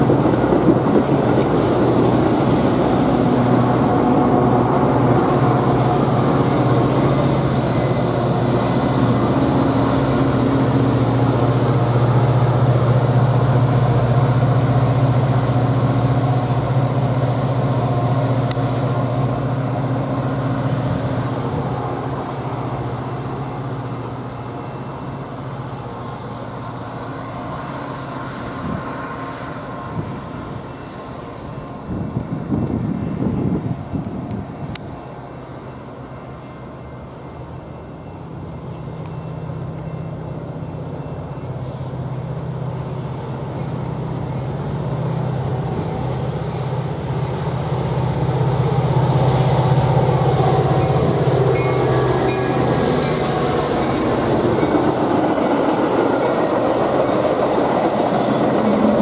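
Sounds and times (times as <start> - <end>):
diesel locomotive drone: 0.0 - 59.0
train wheels rumbling on rail: 0.0 - 59.0.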